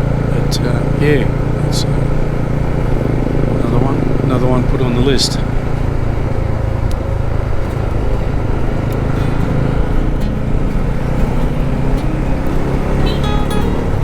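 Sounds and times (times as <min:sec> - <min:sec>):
guitar music: 0:00.0 - 0:14.0
motorcycle engine rumble: 0:00.0 - 0:14.0.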